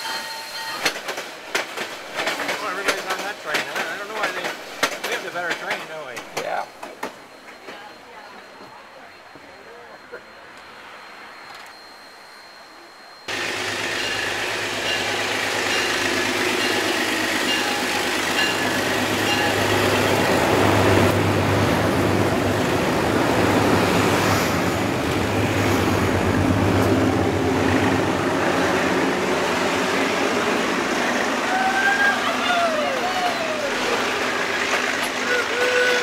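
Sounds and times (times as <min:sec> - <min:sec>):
diesel locomotive engine humming: 0:00.0 - 0:36.0
train cars rolling on rails: 0:00.0 - 0:36.0.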